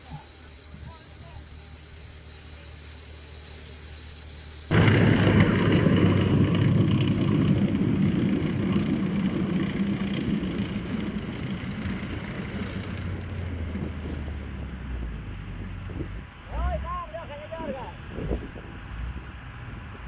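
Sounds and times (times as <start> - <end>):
heavy vehicle engine humming: 1.4 - 20.0.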